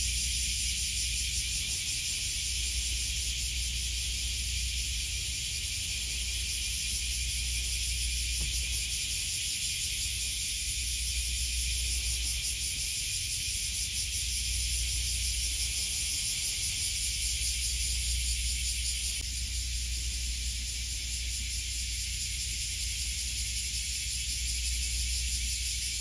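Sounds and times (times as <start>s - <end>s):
insect chorus hissing: 0.0s - 26.0s
low steady rumble: 0.0s - 26.0s.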